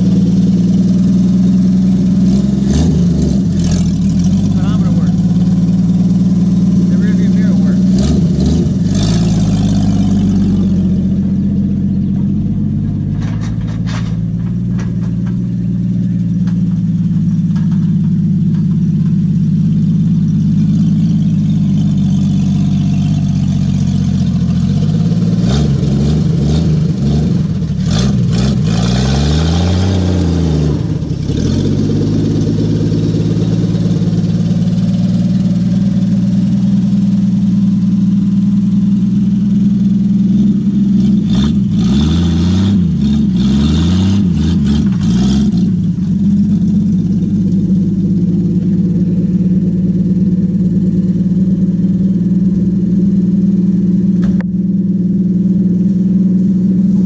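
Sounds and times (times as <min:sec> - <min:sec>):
truck engine driving by: 0:00.0 - 0:57.0.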